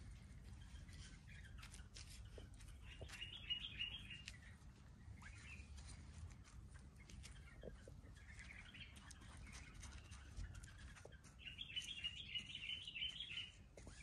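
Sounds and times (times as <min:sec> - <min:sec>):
small birds twittering: 0:00.0 - 0:14.0.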